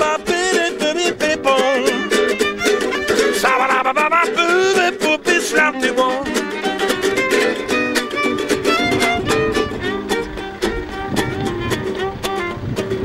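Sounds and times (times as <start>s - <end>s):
acoustic guitar strummed: 0.0s - 13.0s
violin playing a melody: 1.6s - 13.0s.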